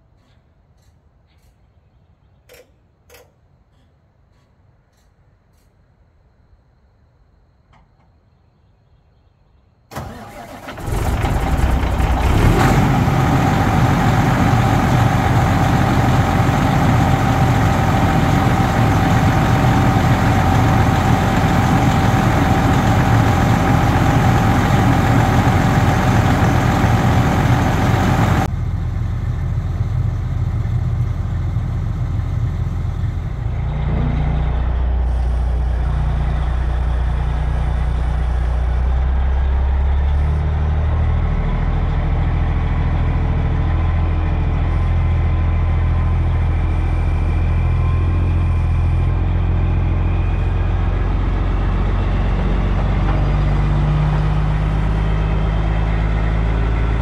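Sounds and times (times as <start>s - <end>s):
diesel truck engine starting and idling: 9.9s - 57.0s.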